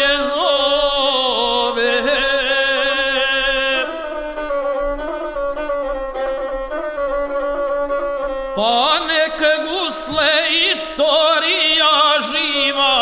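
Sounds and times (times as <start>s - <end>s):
bowed single-string fiddle: 0.0s - 13.0s.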